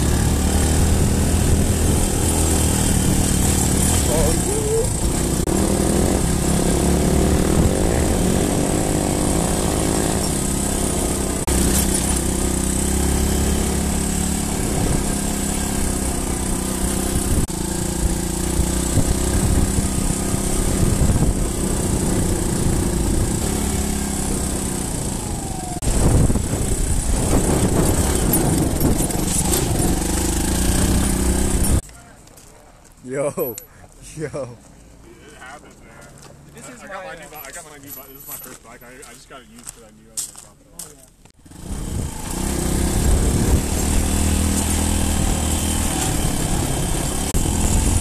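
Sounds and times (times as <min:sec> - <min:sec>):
dirt bike engine revving: 0:00.0 - 0:31.8, 0:41.4 - 0:48.0.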